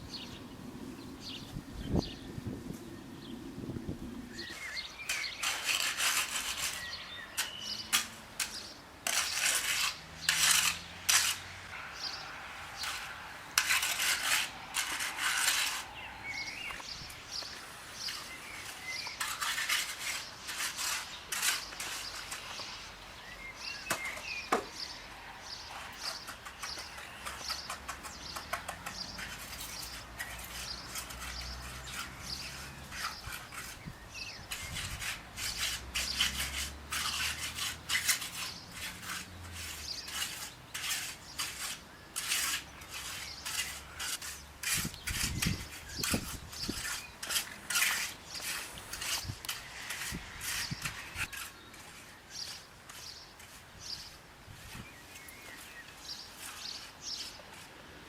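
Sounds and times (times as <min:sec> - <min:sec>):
hard objects clattering and scraping: 0:04.4 - 0:22.8, 0:23.6 - 0:53.6.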